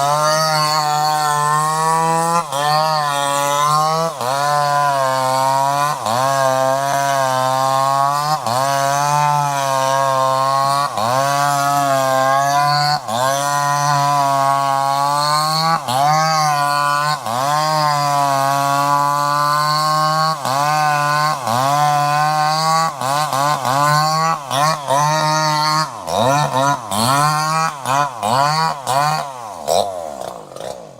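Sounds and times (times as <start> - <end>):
chainsaw engine revving: 0.0 - 30.9.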